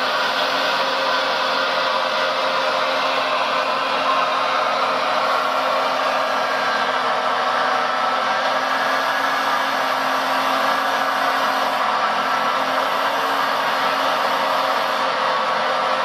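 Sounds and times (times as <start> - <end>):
hydraulic pump whirring: 0.0 - 16.0.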